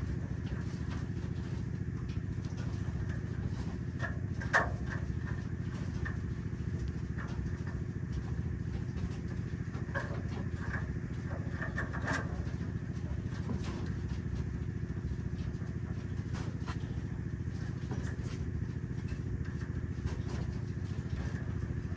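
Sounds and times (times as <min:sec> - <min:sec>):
animals rattling wire cage: 0:00.0 - 0:21.9
low machine hum: 0:00.0 - 0:21.9.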